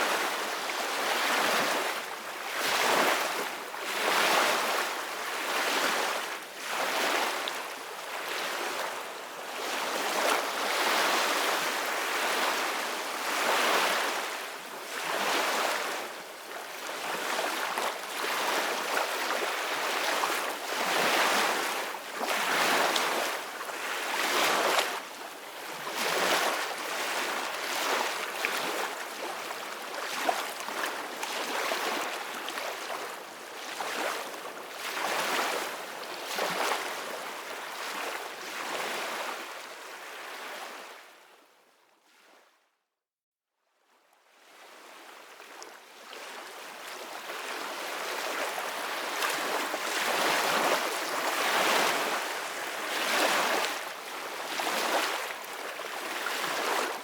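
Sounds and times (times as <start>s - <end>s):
ocean waves breaking on beach: 0.0s - 40.9s, 46.2s - 57.0s.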